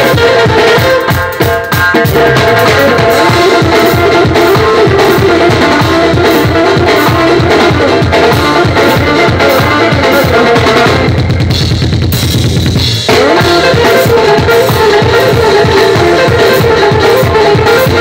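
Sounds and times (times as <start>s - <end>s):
fast drum roll: 0.0s - 18.0s
live band music: 0.0s - 18.0s.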